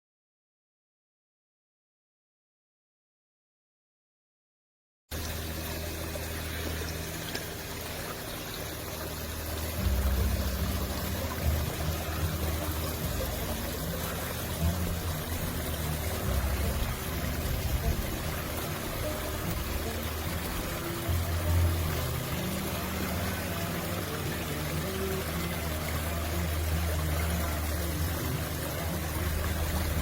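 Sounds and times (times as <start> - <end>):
low hum: 5.1 - 30.0
water rushing and splashing: 5.1 - 30.0.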